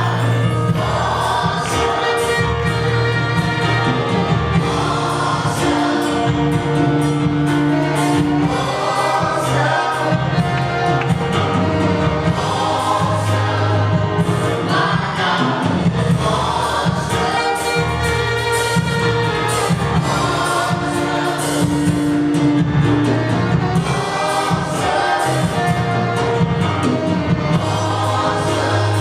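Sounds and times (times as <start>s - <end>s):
band with bass and drums: 0.0s - 29.0s
choir singing gospel: 0.0s - 29.0s.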